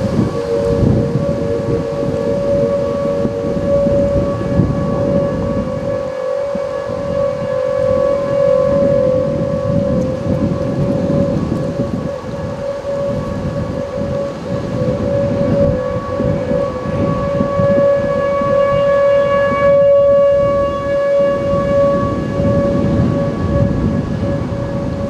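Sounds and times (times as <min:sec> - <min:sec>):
warning sirens steady tone: 0:00.0 - 0:25.0.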